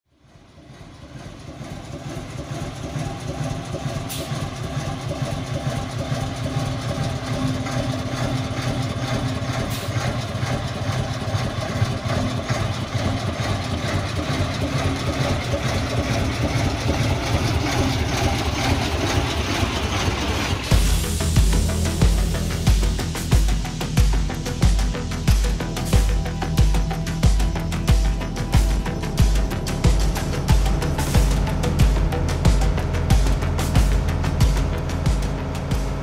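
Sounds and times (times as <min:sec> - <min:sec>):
fire engine idling: 0:00.1 - 0:36.0.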